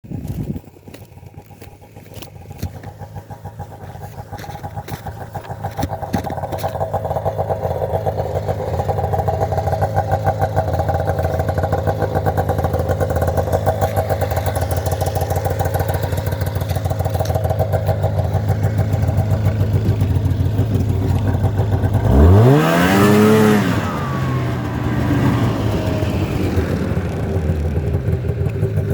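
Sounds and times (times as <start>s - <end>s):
snowmobile engine running and revving: 0.0s - 28.9s.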